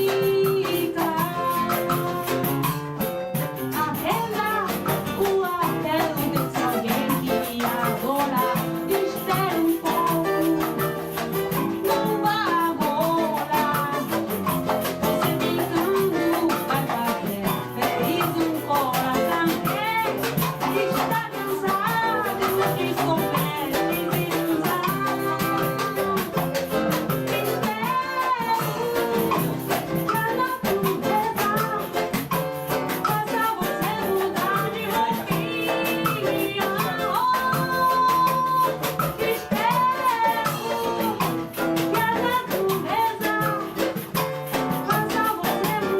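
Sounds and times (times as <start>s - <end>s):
samba band playing: 0.0s - 45.9s.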